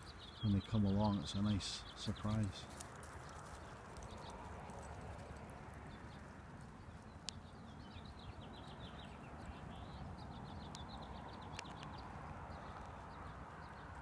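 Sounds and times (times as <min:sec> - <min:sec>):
faint outdoor background: 0:00.0 - 0:14.0
songbird singing: 0:00.0 - 0:14.0.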